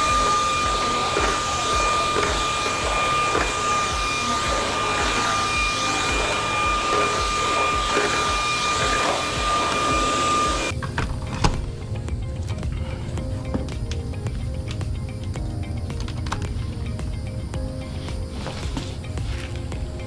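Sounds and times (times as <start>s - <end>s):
vacuum cleaner whine: 0.0s - 20.0s.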